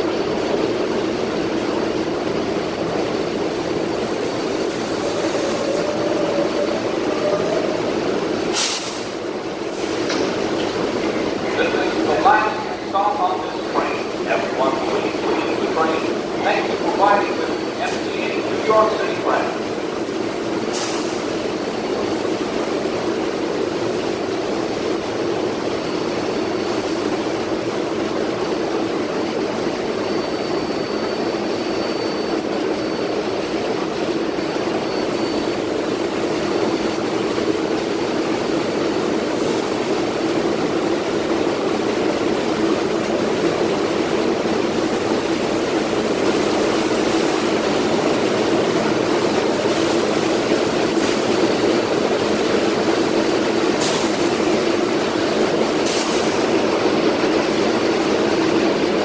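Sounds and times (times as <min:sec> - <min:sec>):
subway train roaring: 0:00.0 - 0:59.0.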